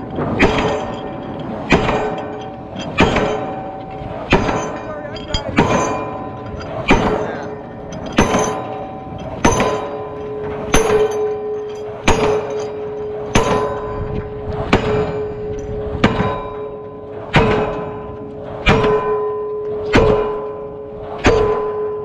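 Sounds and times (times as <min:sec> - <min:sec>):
pile hammer blows: 0:00.0 - 0:22.0
steel pile ringing: 0:00.0 - 0:22.0.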